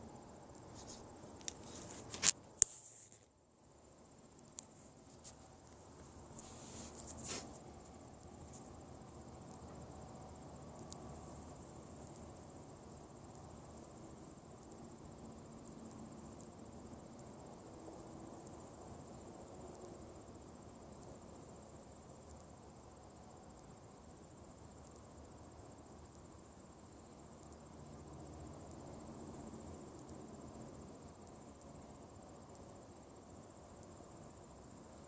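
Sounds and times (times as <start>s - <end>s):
high-pitched insect trill: 0.0s - 35.0s.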